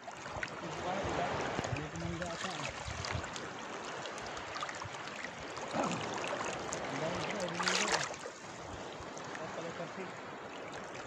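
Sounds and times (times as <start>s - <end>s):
seawater sloshing around waders: 0.0s - 11.0s.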